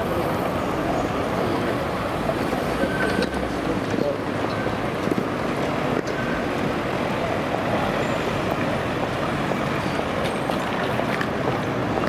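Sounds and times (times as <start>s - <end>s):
road traffic: 0.0s - 12.0s
tram rumbling past: 0.0s - 12.0s.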